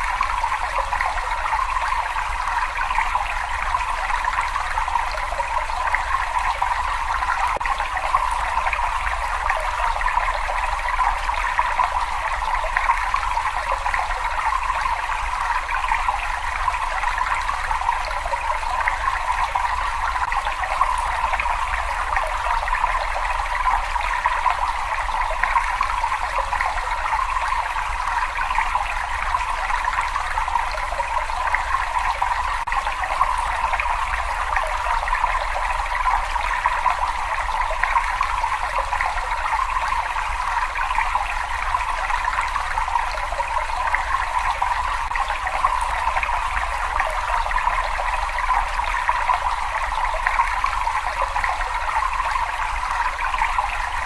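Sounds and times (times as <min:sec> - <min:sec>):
water running in a cave: 0:00.0 - 0:54.0.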